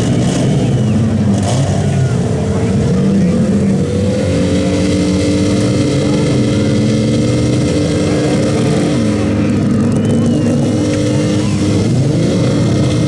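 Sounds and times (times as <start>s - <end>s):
car engines revving: 0.0s - 13.0s
steady high-pitched engine: 0.0s - 13.0s.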